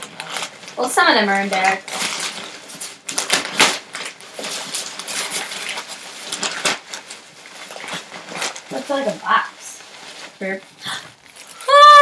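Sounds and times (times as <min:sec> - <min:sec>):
plastic mailer crinkling: 0:00.0 - 0:11.9.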